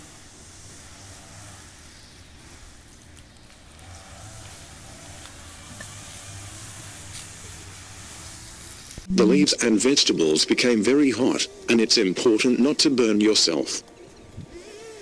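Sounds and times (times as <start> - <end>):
steam hissing: 0.0 - 13.8
shovel scrapes and leaf rustles: 0.0 - 15.0.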